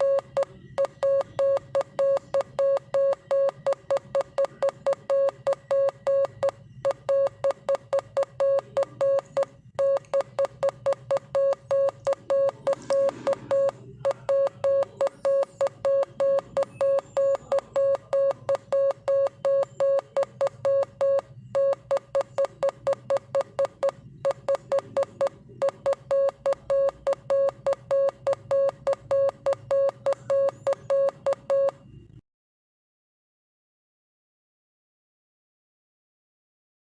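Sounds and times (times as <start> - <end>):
morse code beeps: 0.0 - 31.9.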